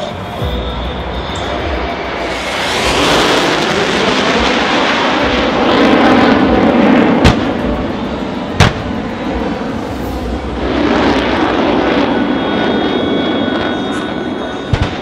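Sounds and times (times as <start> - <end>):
jet aircraft low pass: 0.0 - 15.0.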